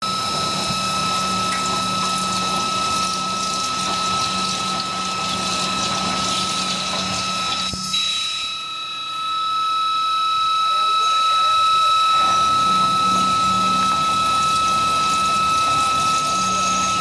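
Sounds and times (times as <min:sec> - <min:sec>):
high machine whine: 0:00.0 - 0:17.0
low machine hum: 0:00.0 - 0:17.0.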